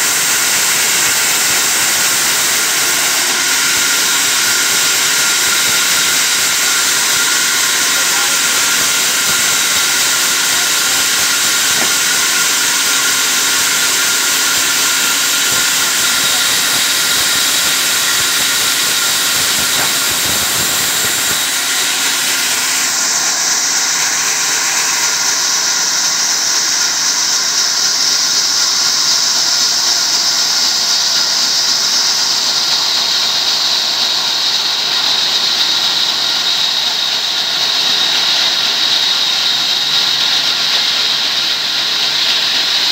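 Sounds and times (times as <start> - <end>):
band saw cutting wood: 0.0 - 42.9.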